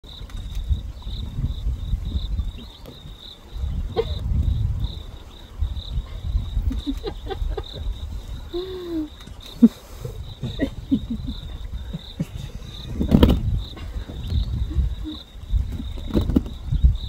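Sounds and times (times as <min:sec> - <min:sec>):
insect chirping pulse: 0:00.0 - 0:17.0.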